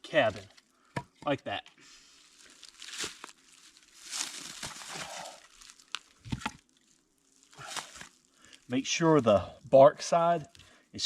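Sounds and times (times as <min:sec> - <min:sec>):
rustling of bark and wood: 0:01.9 - 0:10.8.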